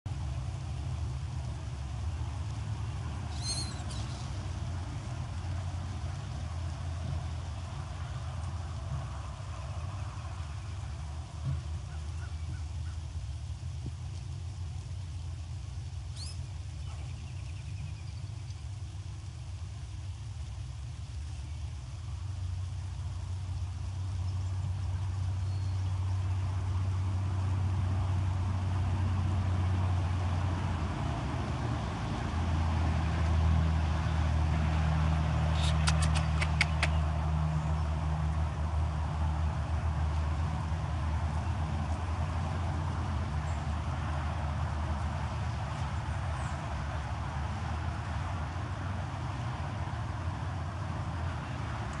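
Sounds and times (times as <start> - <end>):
constant low rumble: 0.1 - 52.0
low engine-like hum: 0.1 - 52.0
rain hissing: 0.1 - 52.0.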